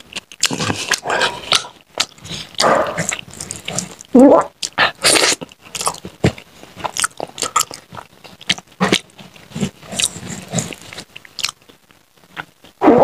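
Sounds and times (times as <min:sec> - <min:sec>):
open-mouthed chewing: 0:00.0 - 0:12.8.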